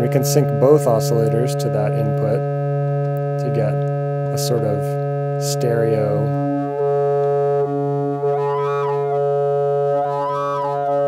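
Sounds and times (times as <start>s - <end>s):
synthesizer sustained tone: 0.0s - 11.0s.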